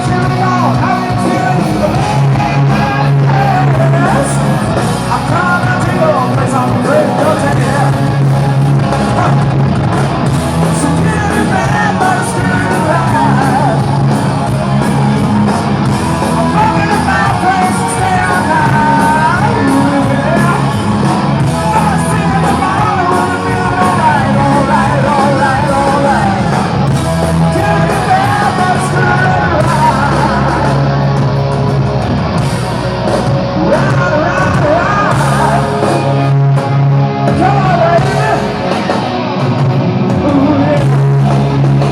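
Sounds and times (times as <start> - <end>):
lead singer vocals: 0.0 - 8.3, 10.6 - 14.3, 16.2 - 31.3, 33.6 - 38.7, 40.0 - 41.9
hard rock band playing: 0.0 - 41.9.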